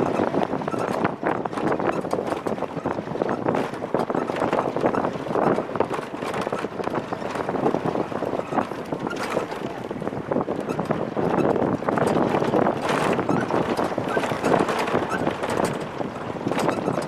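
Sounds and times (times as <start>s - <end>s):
van rumbling over dirt: 0.0s - 17.0s
wind buffeting microphone: 0.0s - 17.0s.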